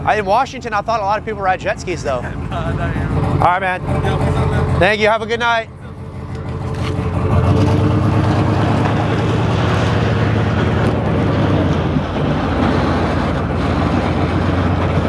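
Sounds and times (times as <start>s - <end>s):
pickup truck engine pulling away: 0.0s - 15.0s
tires rolling on asphalt: 0.0s - 15.0s.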